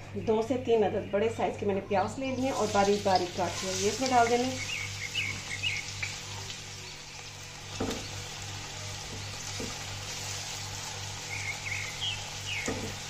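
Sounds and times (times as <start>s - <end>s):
onions sizzling in hot oil: 2.3s - 13.0s.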